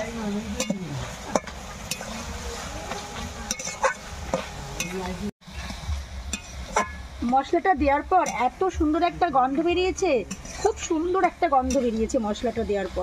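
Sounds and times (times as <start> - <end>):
metal spatula scraping wok: 0.0 - 7.3, 8.1 - 13.0
light frying sizzle: 0.0 - 13.0.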